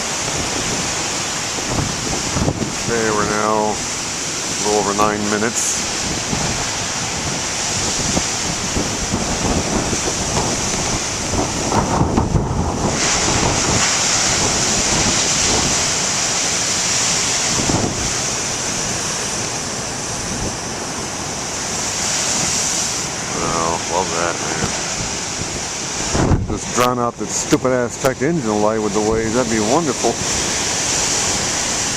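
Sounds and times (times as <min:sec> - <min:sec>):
ocean waves breaking: 0:00.0 - 0:31.9
wind buffeting microphone: 0:00.0 - 0:31.9.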